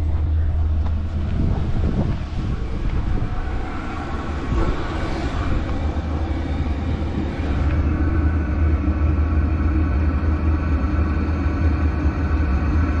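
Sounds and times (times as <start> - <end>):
air heater fan blowing: 0.0 - 13.0
low hum: 0.0 - 13.0.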